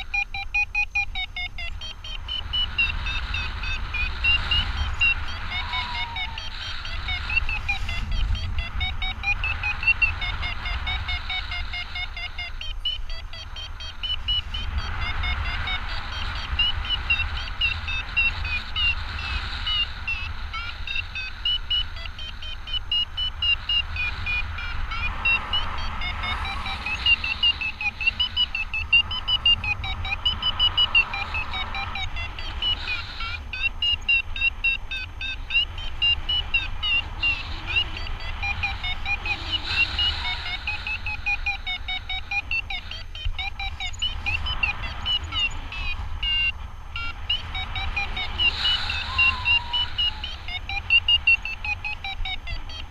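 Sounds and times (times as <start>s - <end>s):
variometer beeping: 0.0s - 52.9s
wind rumble on microphone: 0.6s - 52.9s.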